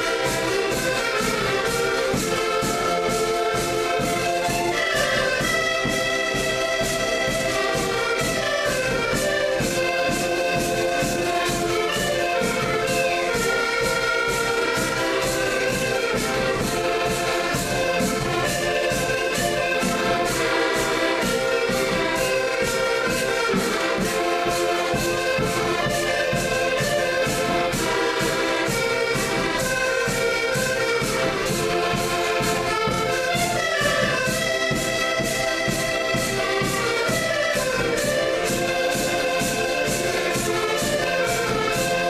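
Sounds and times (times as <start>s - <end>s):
music with steady beat: 0.0s - 42.0s.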